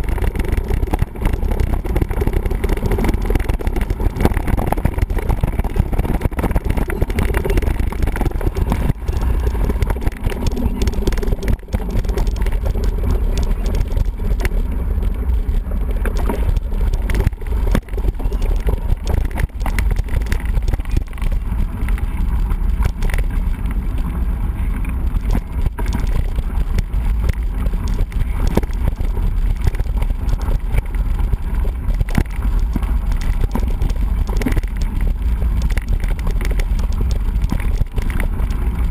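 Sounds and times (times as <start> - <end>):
bike rattling and knocking: 0.0 - 38.9
wind buffeting microphone: 0.0 - 38.9.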